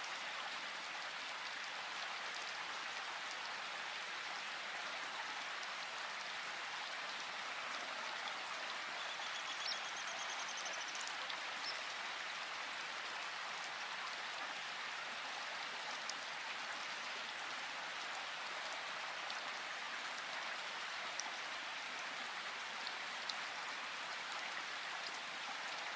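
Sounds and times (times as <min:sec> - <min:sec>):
river water flowing: 0:00.0 - 0:25.9.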